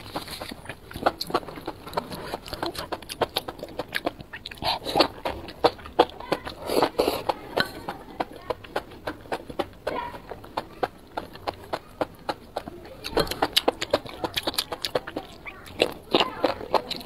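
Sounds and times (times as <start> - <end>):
slurping: 0.0 - 17.0
wet chewing clicks and smacks: 0.0 - 17.0.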